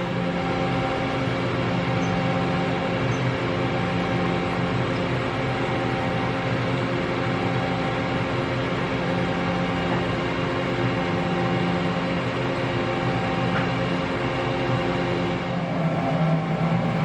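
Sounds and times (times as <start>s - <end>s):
machining center humming: 0.0s - 17.0s.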